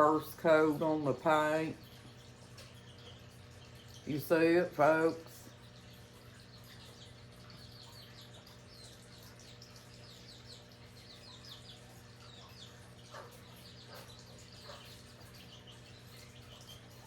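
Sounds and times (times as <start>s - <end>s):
low electrical hum: 0.0s - 17.0s
songbirds chirping: 0.0s - 17.0s.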